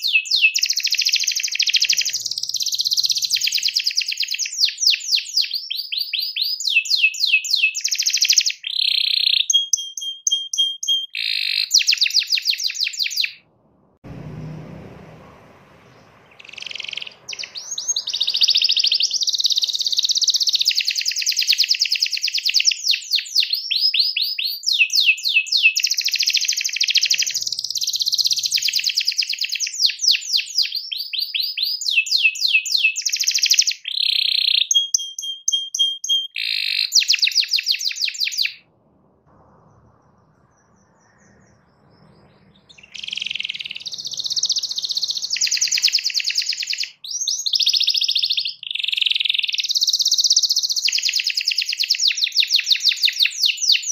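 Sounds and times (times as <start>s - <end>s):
canary singing trills: 0.0s - 13.4s, 15.8s - 38.7s, 39.3s - 53.9s.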